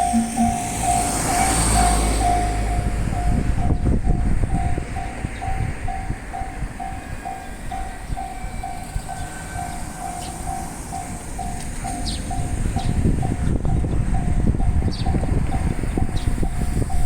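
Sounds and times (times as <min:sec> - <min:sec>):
level-crossing alarm bell: 0:00.0 - 0:17.0
train rumbling past: 0:00.0 - 0:17.0.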